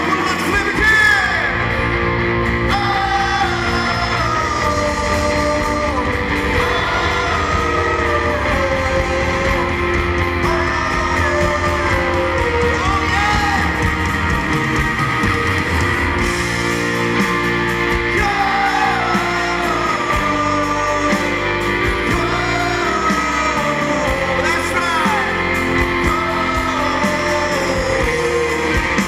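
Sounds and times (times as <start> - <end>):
guitars strumming: 0.0 - 29.0
person singing: 0.0 - 29.0.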